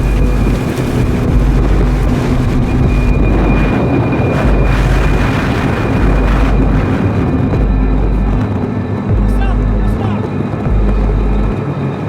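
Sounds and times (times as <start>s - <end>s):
wind and rain buffeting vehicle: 0.0s - 12.0s.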